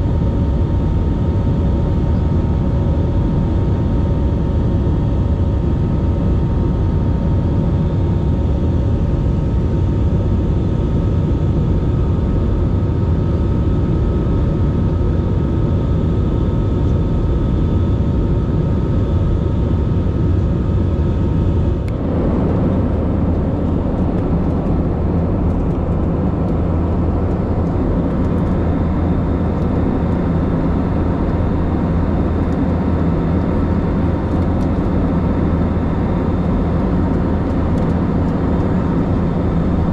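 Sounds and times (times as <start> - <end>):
jet airliner cabin drone: 0.0 - 39.9.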